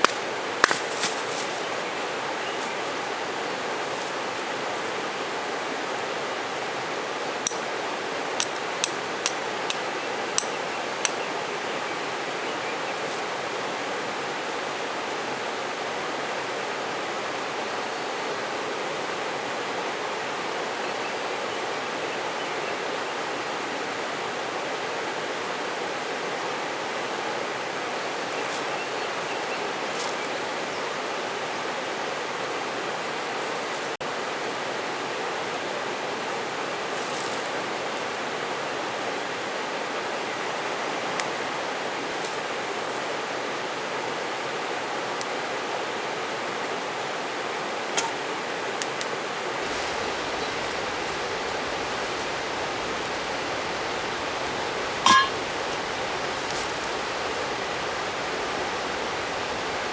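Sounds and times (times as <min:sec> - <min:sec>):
mountain river rushing: 0:00.0 - 0:59.9.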